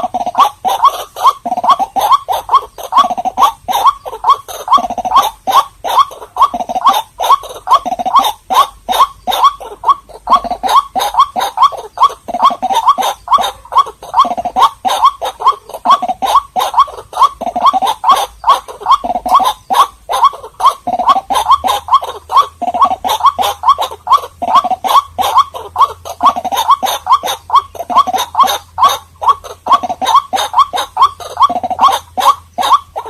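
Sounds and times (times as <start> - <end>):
waterhen calling: 0.0 - 33.0.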